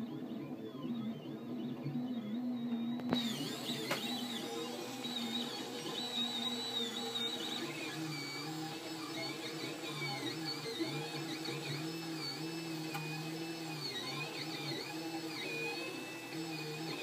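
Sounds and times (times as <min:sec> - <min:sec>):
printer stepper motor tones: 0:00.0 - 0:17.0.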